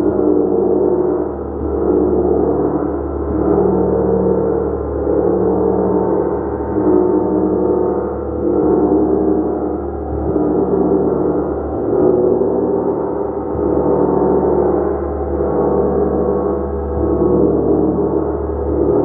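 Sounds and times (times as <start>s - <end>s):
gong ringing: 0.0s - 19.0s.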